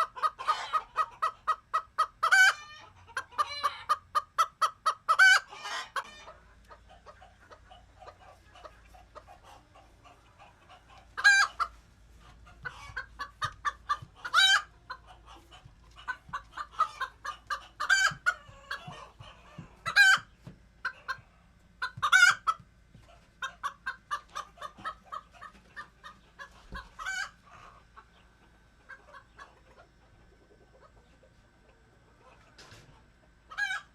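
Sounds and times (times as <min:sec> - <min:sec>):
sharp chicken calls: 0:00.0 - 0:11.8, 0:12.5 - 0:22.6, 0:23.4 - 0:28.2, 0:33.5 - 0:33.9
chickens clucking: 0:00.0 - 0:33.9.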